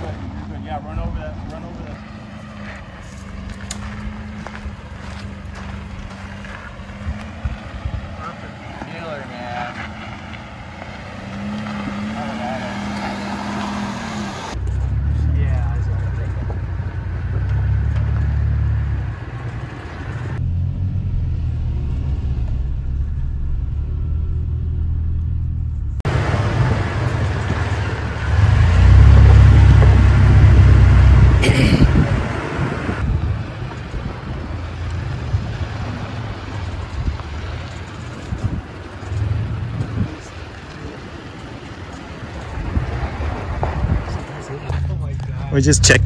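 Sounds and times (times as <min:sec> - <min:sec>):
off-road truck engine rumble: 0:00.0 - 0:46.0.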